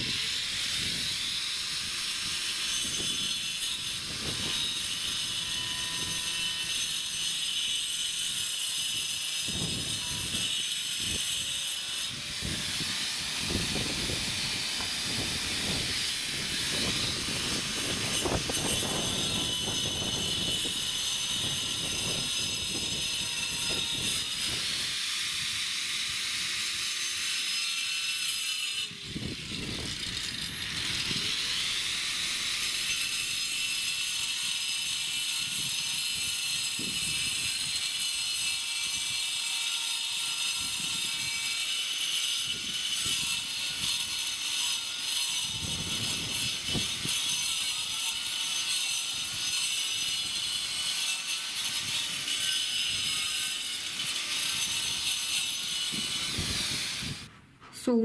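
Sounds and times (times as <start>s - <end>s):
angle grinder cutting brick: 0.0s - 57.3s.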